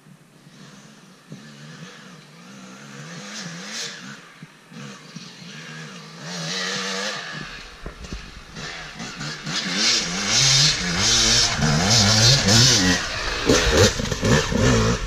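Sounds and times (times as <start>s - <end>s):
dirt bike engine revving: 0.5s - 15.0s.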